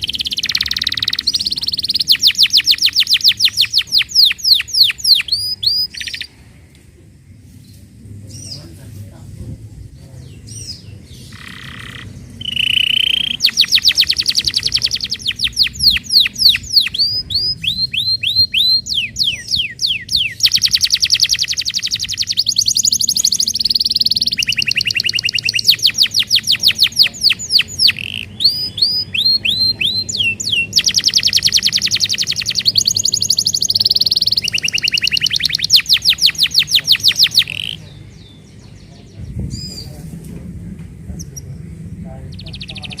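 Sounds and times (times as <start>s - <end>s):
canary singing trills: 0.0s - 6.4s, 10.1s - 40.0s, 41.1s - 43.0s.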